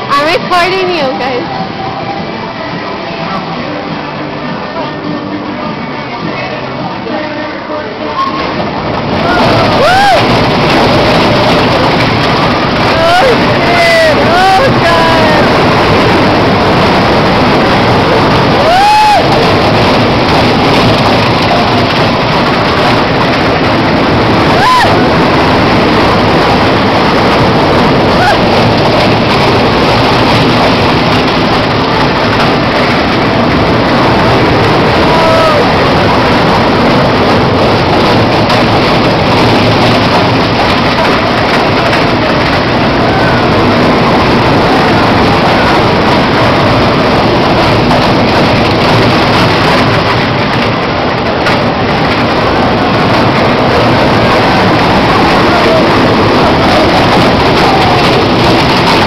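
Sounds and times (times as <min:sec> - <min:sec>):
ride train rumbling: 0:00.0 - 0:59.0.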